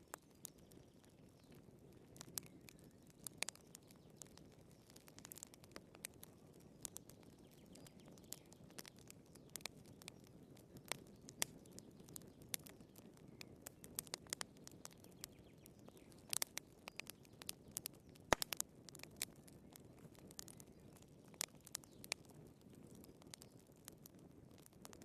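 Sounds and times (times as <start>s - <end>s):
firewood crackling and popping: 0.0s - 25.0s
soft hiss of flames: 0.0s - 25.0s.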